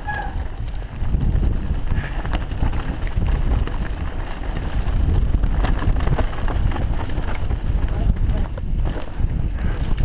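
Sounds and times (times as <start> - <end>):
bike tyres clicking and rattling: 0.0 - 10.0
wind buffeting microphone: 0.0 - 10.0.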